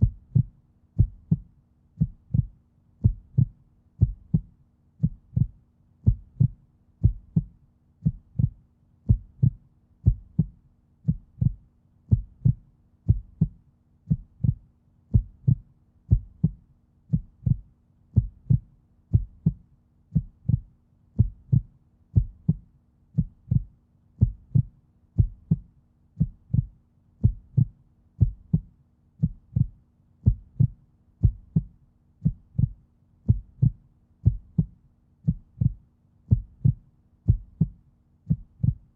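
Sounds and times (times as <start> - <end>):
faint steady hum: 0.0 - 38.9
steady low thumping: 0.0 - 38.9.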